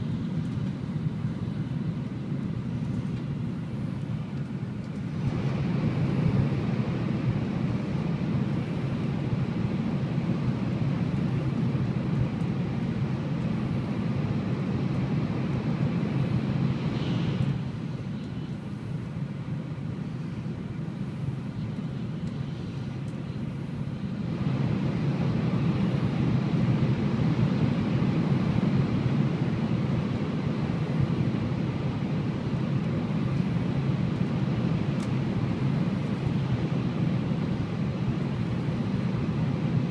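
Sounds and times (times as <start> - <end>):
train cabin rumble and hiss: 0.0 - 39.9.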